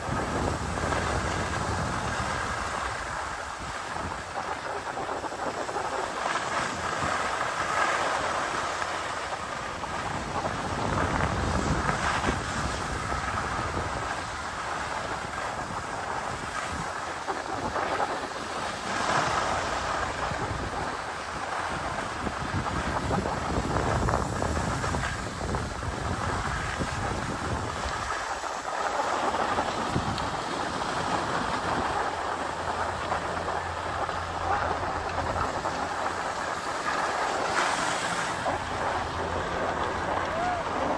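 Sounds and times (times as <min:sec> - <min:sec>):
skis scraping on snow: 0:00.0 - 0:40.9
wind buffeting microphone: 0:00.0 - 0:40.9.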